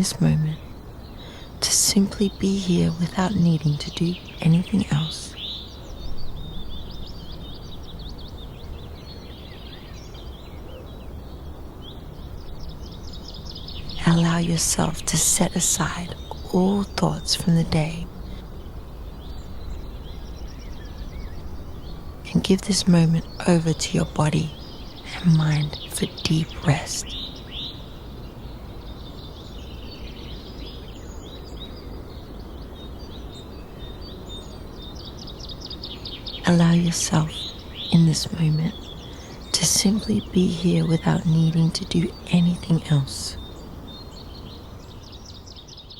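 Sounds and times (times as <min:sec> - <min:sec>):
low background rumble: 0:00.0 - 0:45.8
songbirds chirping and trilling: 0:00.0 - 0:45.9.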